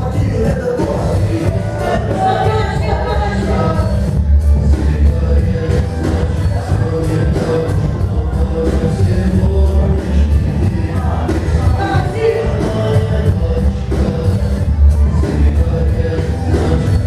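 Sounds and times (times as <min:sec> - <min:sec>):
dance music with heavy bass: 0:00.0 - 0:17.0
person singing: 0:00.0 - 0:17.0.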